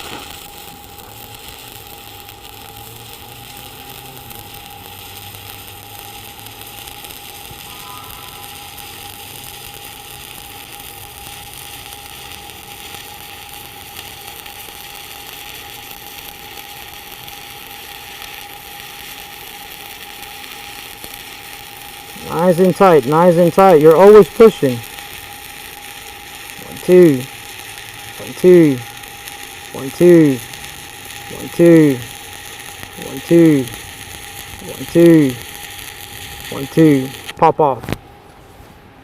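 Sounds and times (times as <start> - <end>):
welding arc crackling: 0.0 - 38.1.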